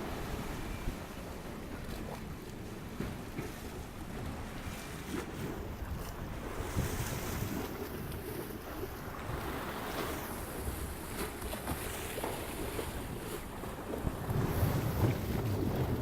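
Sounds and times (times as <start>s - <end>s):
river water: 0.0s - 16.0s
wind on the microphone: 3.0s - 16.0s.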